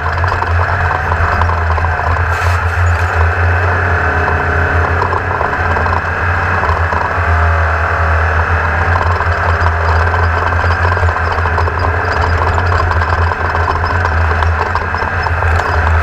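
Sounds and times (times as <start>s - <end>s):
race car engine running: 0.0s - 16.0s.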